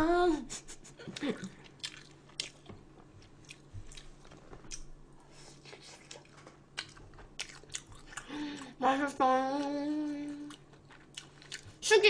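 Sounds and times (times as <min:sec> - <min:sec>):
faint steady hum: 0:00.0 - 0:12.0
person chewing food: 0:01.1 - 0:08.8, 0:09.6 - 0:11.8.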